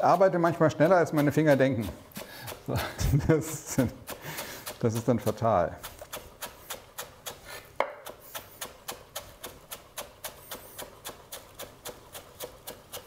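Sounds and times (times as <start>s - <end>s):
knife chopping on cutting board: 0.0s - 13.0s.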